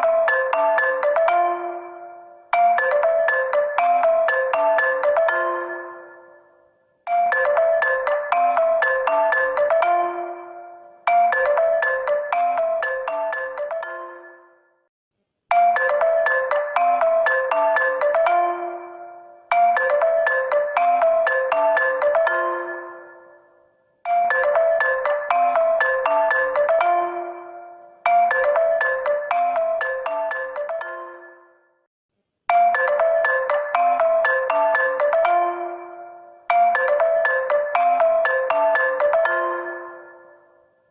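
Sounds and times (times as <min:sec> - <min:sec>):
marimba-like phone ringtone: 0:00.0 - 0:14.9, 0:15.5 - 0:31.9, 0:32.5 - 0:40.9.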